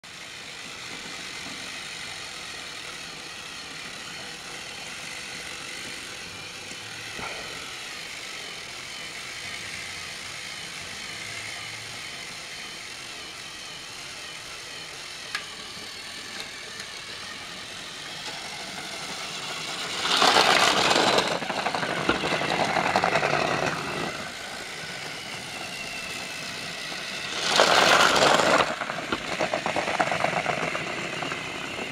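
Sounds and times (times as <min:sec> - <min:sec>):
toy train motor whirring: 0:00.0 - 0:31.9
toy train wheels rattling: 0:00.0 - 0:31.9.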